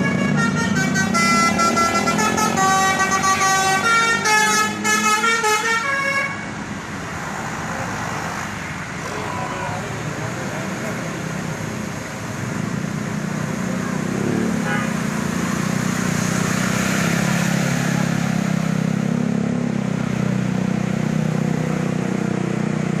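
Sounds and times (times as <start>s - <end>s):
bus engine droning: 0.0s - 23.0s
street noise: 0.0s - 23.0s.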